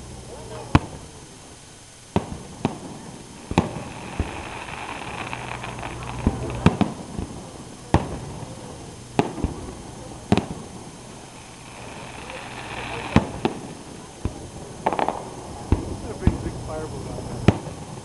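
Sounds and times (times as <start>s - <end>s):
fireworks bursting with sharp bangs: 0.0s - 18.0s.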